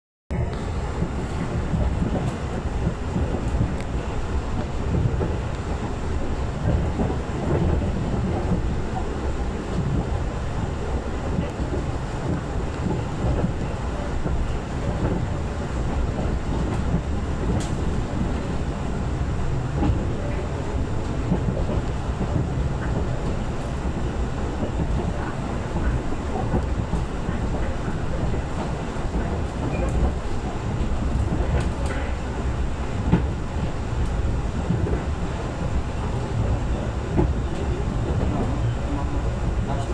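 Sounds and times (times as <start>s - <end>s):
train wheels on rails: 0.3s - 39.9s.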